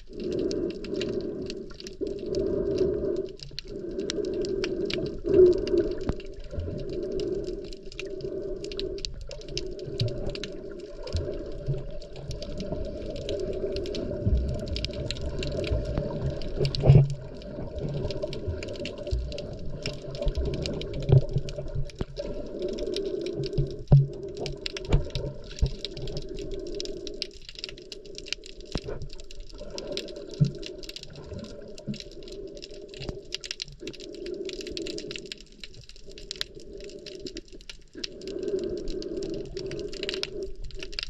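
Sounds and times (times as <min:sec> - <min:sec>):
dull underwater hum: 0:00.0 - 0:41.0
fine crackling clicks: 0:00.0 - 0:41.0.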